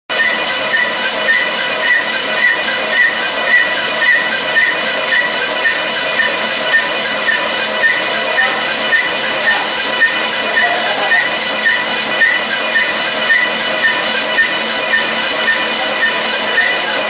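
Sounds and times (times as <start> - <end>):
faint pulsing: 0.1 - 17.0
machinery hissing: 0.1 - 17.0.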